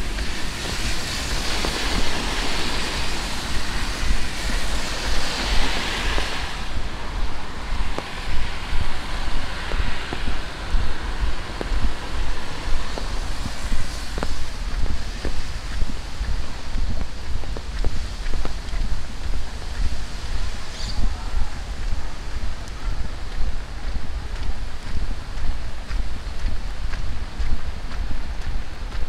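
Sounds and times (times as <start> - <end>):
low rumble: 0.0 - 29.0
steady rain: 0.0 - 29.0.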